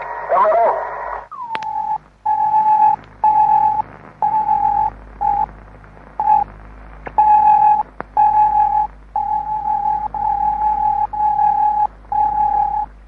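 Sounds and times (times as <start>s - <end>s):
radio tone beeps: 0.0s - 5.5s, 6.2s - 6.5s, 7.2s - 13.0s
faint low hum: 0.0s - 13.0s.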